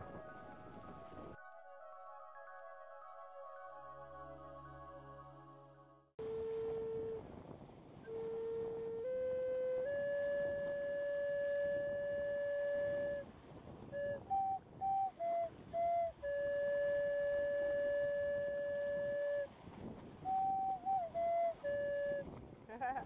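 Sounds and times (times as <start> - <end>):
slow flute melody: 0.0 - 22.4.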